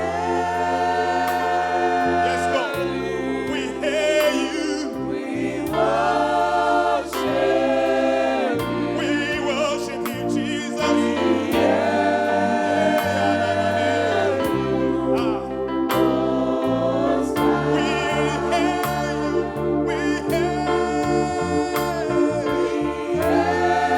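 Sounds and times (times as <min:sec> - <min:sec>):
band playing: 0:00.0 - 0:23.9
gospel choir singing: 0:00.0 - 0:23.9.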